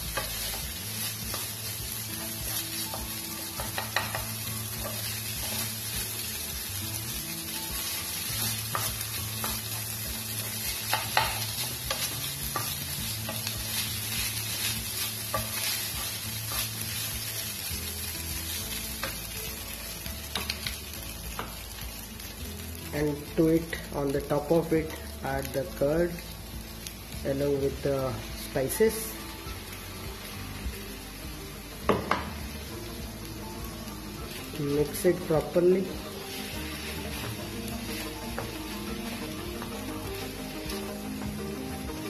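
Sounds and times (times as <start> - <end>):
rice sizzling in frying pan: 0.0 - 42.0.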